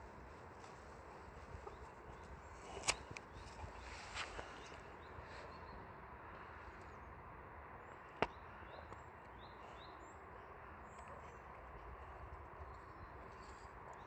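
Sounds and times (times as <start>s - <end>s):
faint outdoor background noise: 0.0s - 14.0s.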